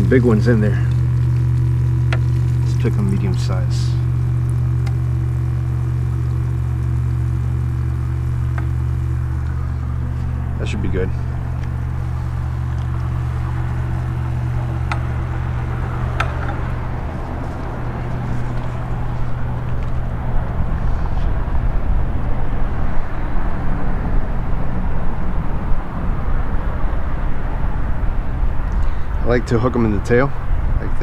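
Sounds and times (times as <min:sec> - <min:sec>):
passing traffic drone: 0:00.0 - 0:31.0.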